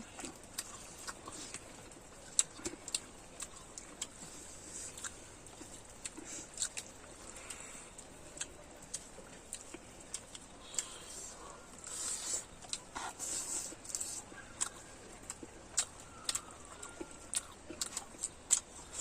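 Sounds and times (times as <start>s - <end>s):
wet chewing mouth sounds: 0.0s - 19.0s.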